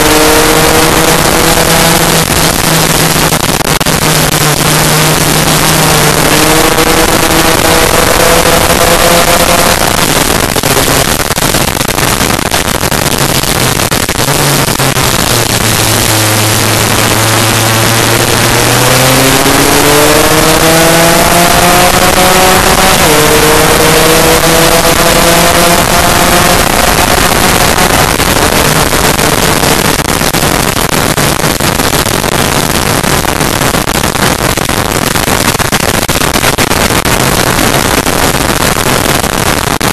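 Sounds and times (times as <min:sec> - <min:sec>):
two-stroke scooter engine racing: 0:00.0 - 0:39.9
wind rush on camera: 0:00.0 - 0:39.9.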